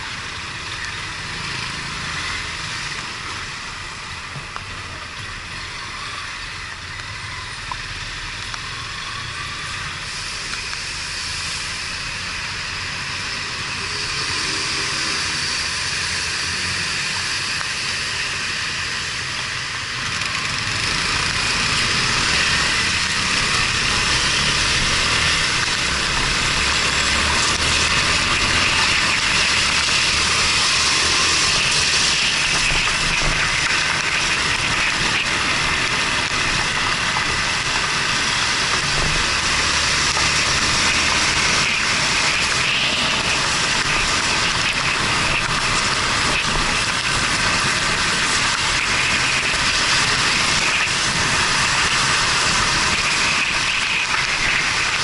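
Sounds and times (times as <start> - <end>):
motorcycle engine running: 0.0 - 55.0
tyres on wet road: 0.0 - 55.0.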